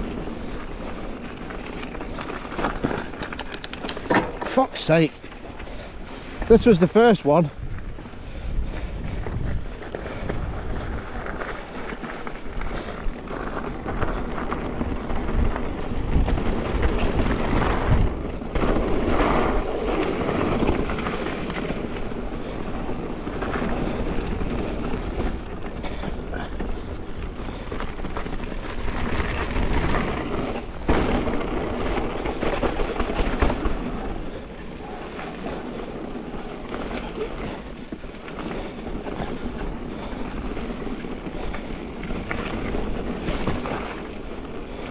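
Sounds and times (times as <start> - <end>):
bike rattling: 0.0 - 44.9
bike tyres on dirt and rocks: 0.0 - 44.9.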